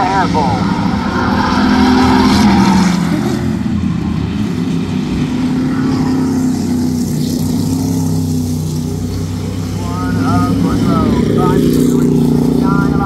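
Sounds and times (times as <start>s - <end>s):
race car engines at speed: 0.0s - 13.0s.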